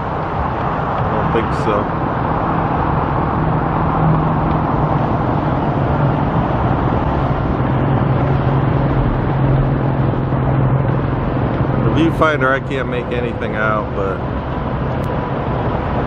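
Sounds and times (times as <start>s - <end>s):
passing vehicles: 0.0s - 16.0s.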